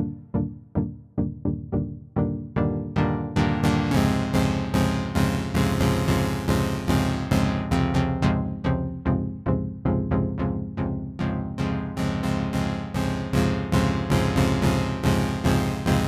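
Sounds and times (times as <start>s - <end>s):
held synth bass line: 0.0s - 16.0s
plucky synthesizer chords: 0.0s - 16.0s.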